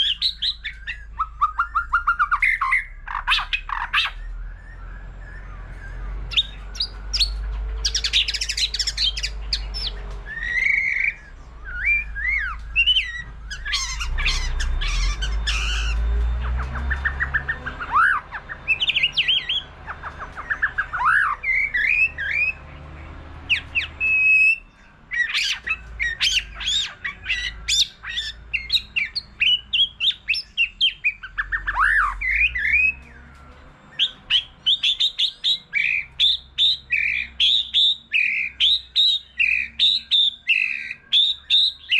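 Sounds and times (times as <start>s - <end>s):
bird singing varied song: 0.0s - 41.9s.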